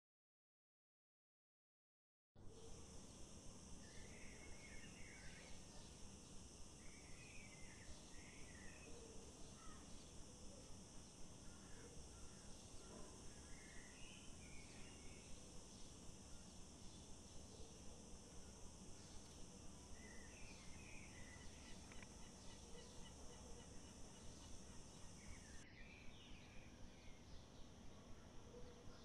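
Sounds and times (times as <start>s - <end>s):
insect drone pulsing: 2.4s - 29.0s
small birds chirping: 2.7s - 29.0s.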